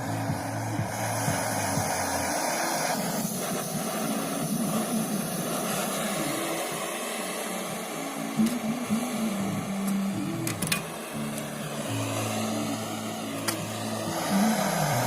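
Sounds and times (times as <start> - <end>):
background music: 0.0 - 15.0
heating tool blowing hiss: 0.0 - 15.0.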